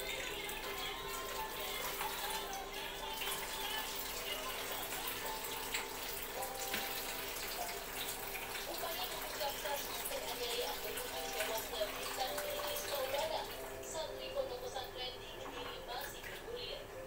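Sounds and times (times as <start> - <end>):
tap running into basin: 0.0 - 14.0.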